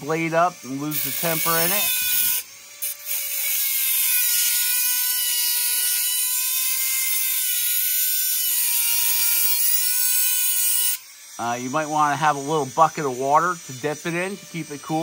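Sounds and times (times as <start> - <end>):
cutoff wheel grinding steel blade: 0.0 - 15.0.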